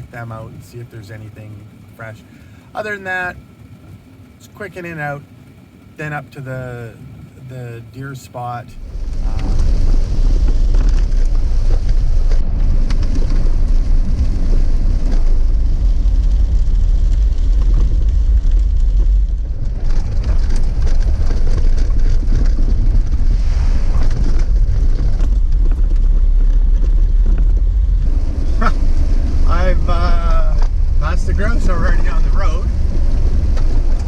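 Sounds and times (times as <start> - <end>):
vehicle engine and tyres rumbling: 0.0 - 34.0.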